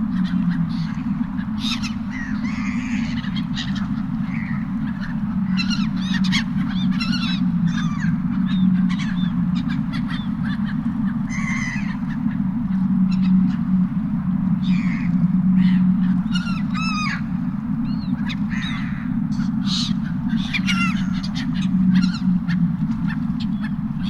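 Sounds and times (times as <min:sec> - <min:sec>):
motorboat engine drone: 0:00.0 - 0:24.0
seagulls calling: 0:00.0 - 0:24.0.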